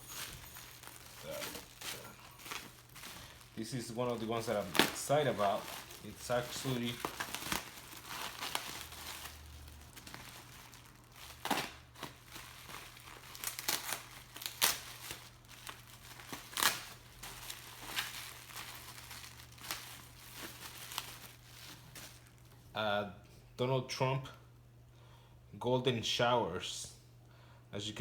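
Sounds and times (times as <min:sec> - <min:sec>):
packaging crinkling and rustling: 0:00.0 - 0:22.6.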